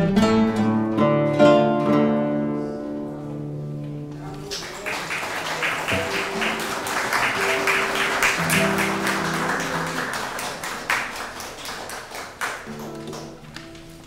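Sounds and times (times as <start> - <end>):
classical guitars strumming: 0.0 - 4.4, 5.1 - 14.0.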